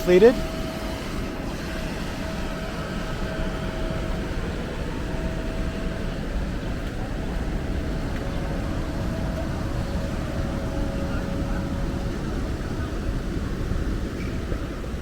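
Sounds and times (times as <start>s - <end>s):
electric air blower droning: 0.0s - 15.0s.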